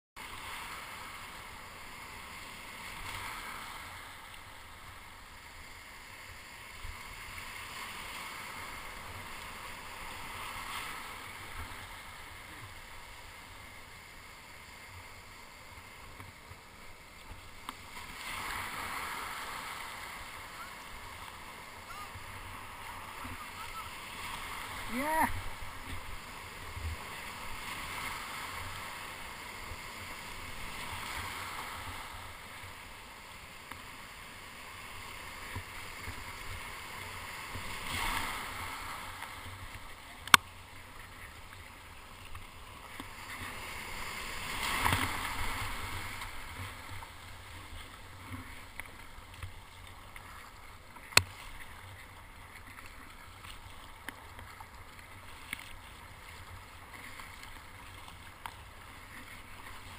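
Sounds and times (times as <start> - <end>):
surf washing and hissing: 0.2 - 59.9.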